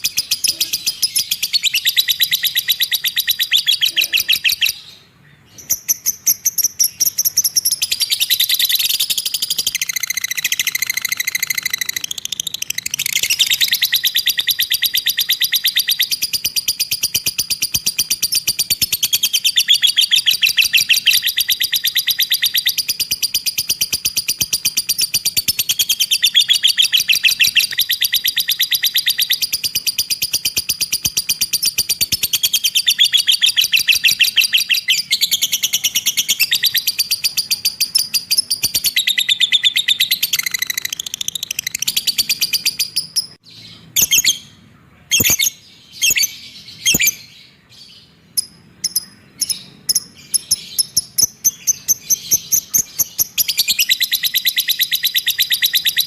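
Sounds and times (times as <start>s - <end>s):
lovebird chattering trill: 0.0s - 47.4s, 48.3s - 56.0s.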